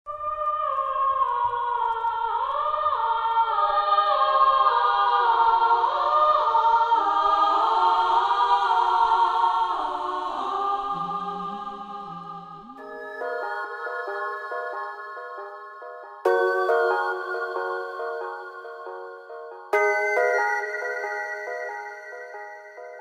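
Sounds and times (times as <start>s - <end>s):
choir singing slow chords: 0.5s - 23.0s.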